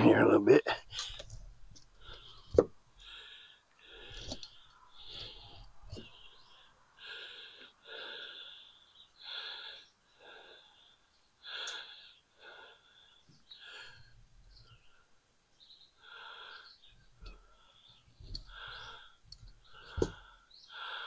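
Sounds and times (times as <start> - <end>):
man breathing heavily: 1.9 - 15.1, 16.0 - 21.0.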